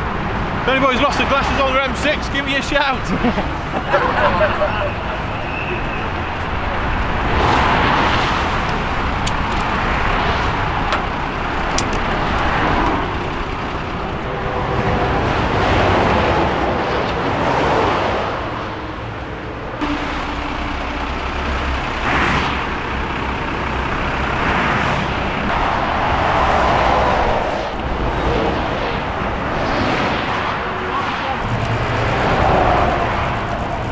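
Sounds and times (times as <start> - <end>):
motorway traffic passing: 0.0 - 33.9.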